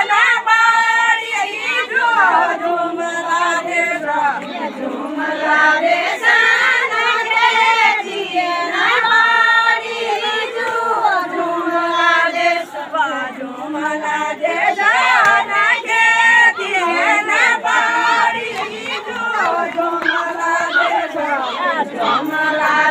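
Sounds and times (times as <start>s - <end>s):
group of women singing: 0.0s - 22.9s.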